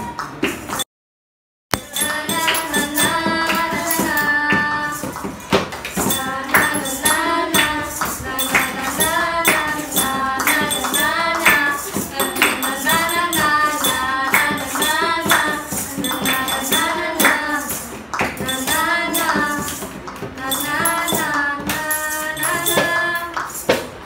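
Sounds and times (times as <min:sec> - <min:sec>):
shaking jingling percussion: 0:01.7 - 0:24.0
children singing together: 0:01.8 - 0:24.0.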